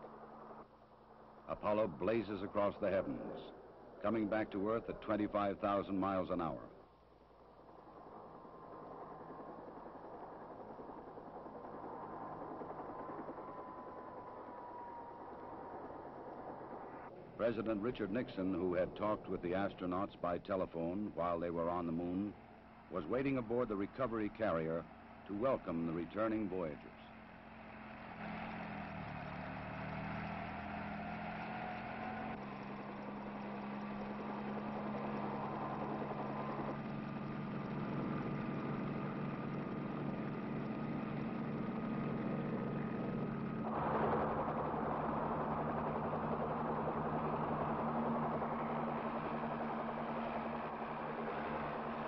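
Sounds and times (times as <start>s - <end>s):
engine droning: 0.0s - 52.0s.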